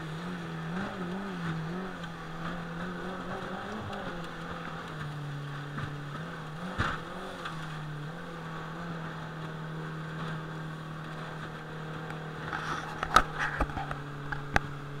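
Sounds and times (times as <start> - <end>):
jet boat motor running: 0.0 - 15.0
rushing water: 0.0 - 15.0.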